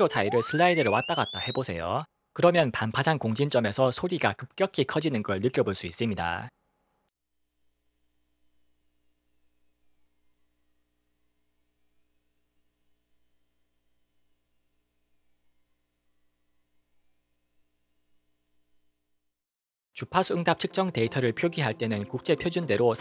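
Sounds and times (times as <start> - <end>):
sine tone sweeping: 0.0 - 19.5.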